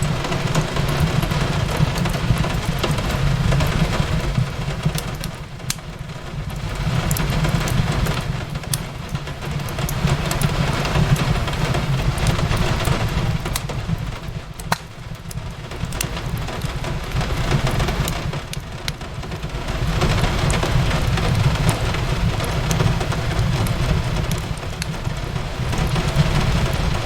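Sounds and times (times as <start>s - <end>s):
rain on a window: 0.0s - 27.0s
wood fire crackling and popping: 0.0s - 27.0s.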